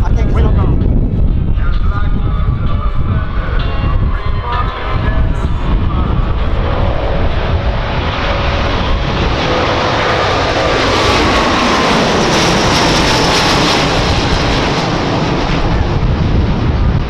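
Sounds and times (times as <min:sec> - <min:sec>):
jet airliner flying by: 0:00.0 - 0:17.0.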